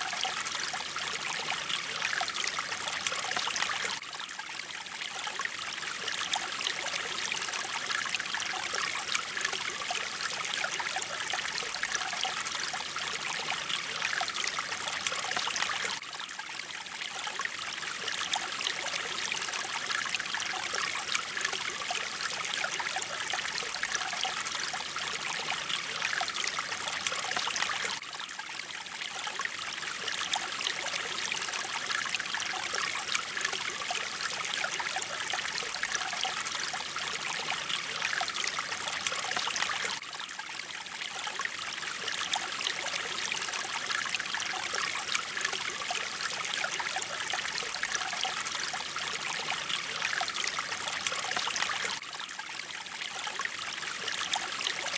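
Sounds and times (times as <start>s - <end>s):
stream trickling over rocks: 0.0s - 54.9s.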